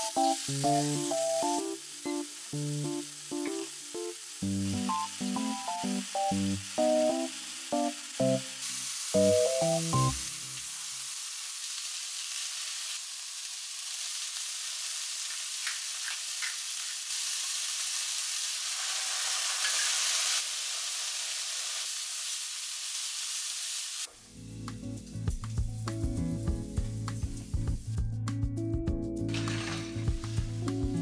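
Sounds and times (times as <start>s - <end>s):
mushrooms sizzling in oil: 0.0s - 28.0s, 29.3s - 31.0s.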